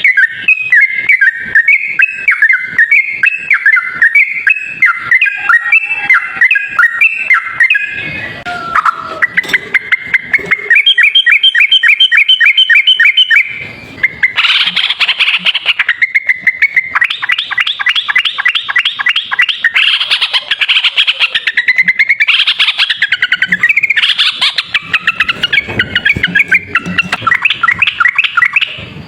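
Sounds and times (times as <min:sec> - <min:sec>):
bird chirping in rolling runs: 0:00.0 - 0:29.0.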